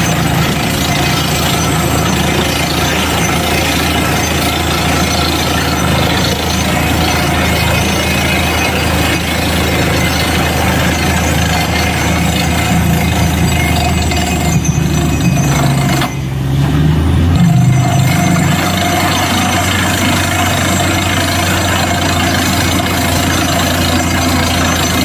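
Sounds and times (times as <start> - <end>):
mechanical clatter: 0.0 - 16.4, 17.3 - 25.0
drilling machine engine drone: 0.0 - 25.0.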